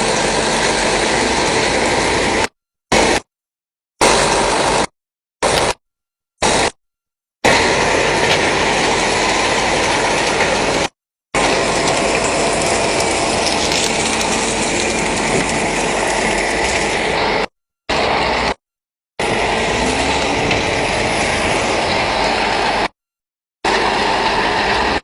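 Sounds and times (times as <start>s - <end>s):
screening plant machinery running: 0.0s - 3.2s, 4.0s - 5.8s, 7.4s - 18.6s, 19.2s - 22.9s, 23.7s - 25.0s.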